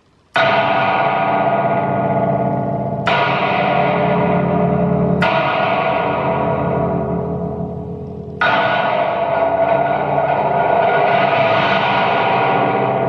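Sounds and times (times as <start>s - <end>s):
long metallic ring: 0.0s - 13.0s.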